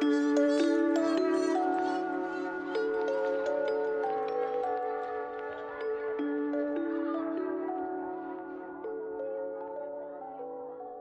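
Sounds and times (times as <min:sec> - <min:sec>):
slow melody of held notes: 0:00.0 - 0:11.0.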